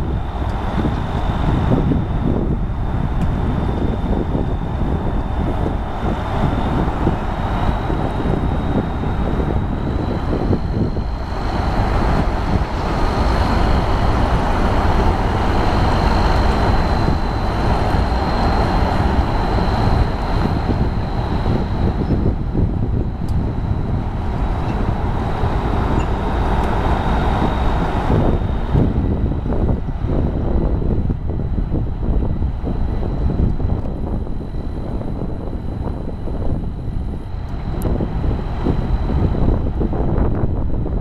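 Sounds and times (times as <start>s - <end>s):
construction machinery rumble: 0.0s - 41.0s
faint high whine: 0.0s - 41.0s
road traffic: 0.0s - 41.0s.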